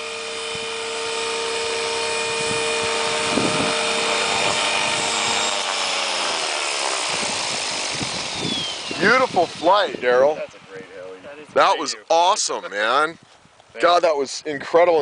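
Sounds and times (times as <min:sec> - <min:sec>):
helicopter motor and rotor whining: 0:00.0 - 0:13.0.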